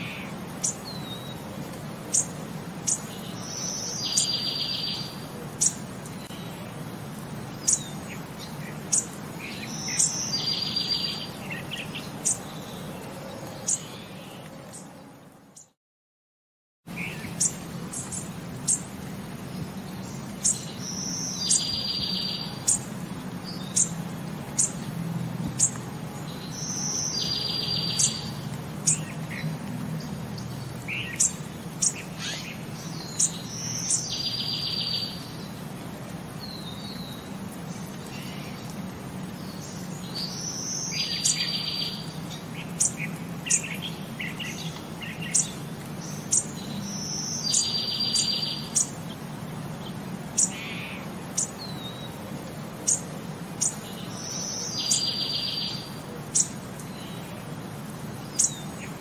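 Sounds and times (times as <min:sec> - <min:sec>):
small birds chirping: 0:00.0 - 0:15.8, 0:16.9 - 0:59.0.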